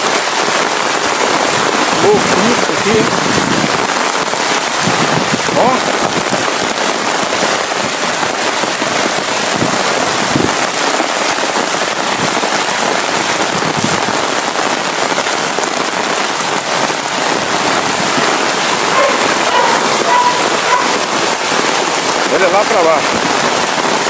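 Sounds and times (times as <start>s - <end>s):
heavy rain on paved street: 0.0s - 24.0s.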